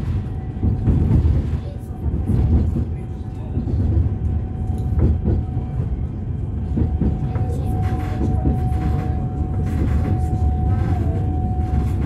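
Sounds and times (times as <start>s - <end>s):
tram wheels rumbling: 0.0s - 12.0s.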